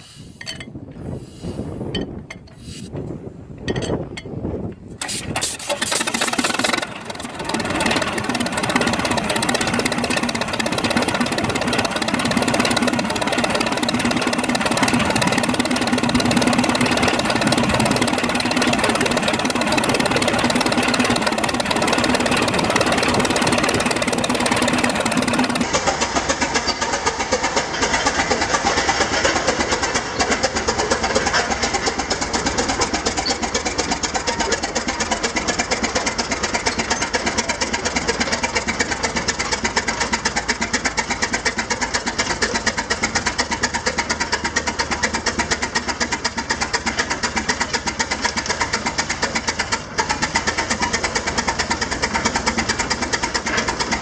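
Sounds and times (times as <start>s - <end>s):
engine running with rapid beat: 5.0s - 54.0s.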